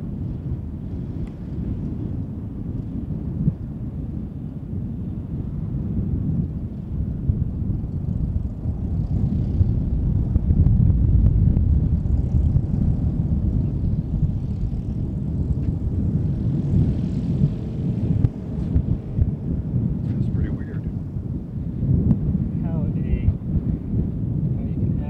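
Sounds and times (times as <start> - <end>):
propeller plane engine passing: 0.0 - 25.0.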